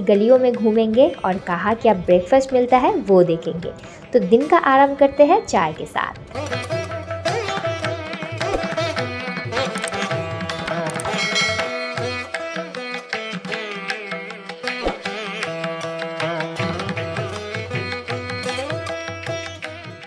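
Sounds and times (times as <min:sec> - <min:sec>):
plucked sitar: 0:00.0 - 0:20.0
tabla drumming: 0:00.0 - 0:20.0.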